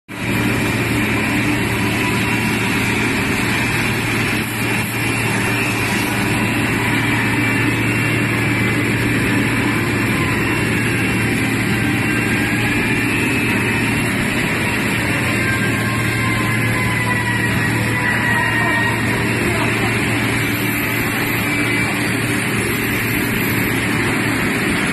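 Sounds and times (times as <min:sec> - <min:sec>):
sanding machine grinding: 0:00.4 - 0:24.9.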